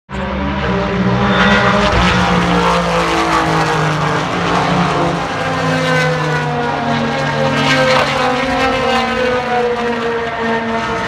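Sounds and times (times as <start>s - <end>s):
race cars passing at speed: 0.1s - 11.0s.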